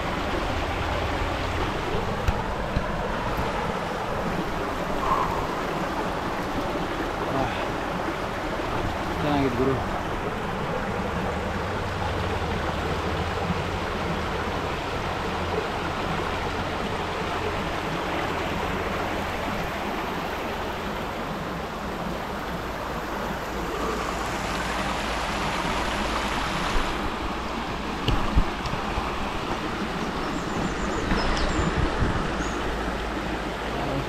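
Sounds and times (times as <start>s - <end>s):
stream rushing over boulders: 0.0s - 34.0s.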